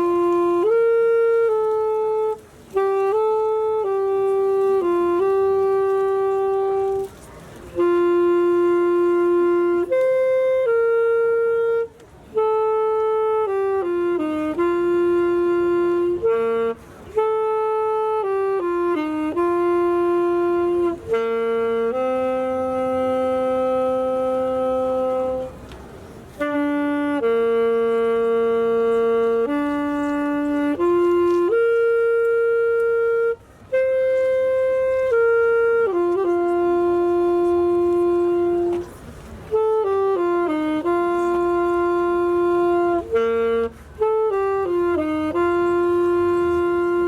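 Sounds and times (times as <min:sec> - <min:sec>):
woodwind solo melody: 0:00.0 - 0:47.0.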